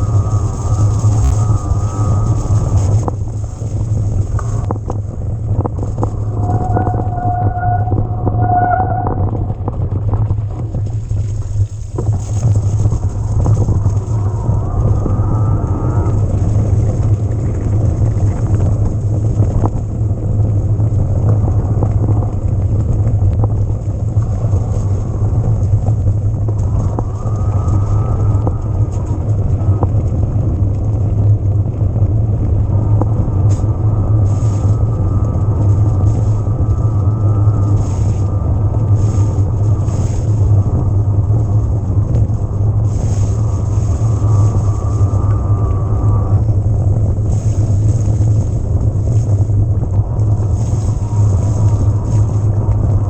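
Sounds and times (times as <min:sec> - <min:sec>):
electric bike motor whine: 0:00.0 - 0:10.4, 0:11.0 - 0:53.0
wind and riding noise: 0:00.0 - 0:53.0.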